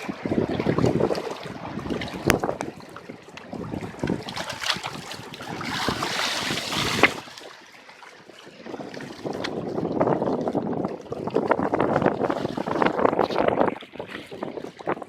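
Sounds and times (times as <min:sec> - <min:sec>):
rush of water: 0:00.0 - 0:15.0
sea water sloshing and slapping: 0:00.0 - 0:15.0
wind buffeting microphone: 0:00.0 - 0:15.0.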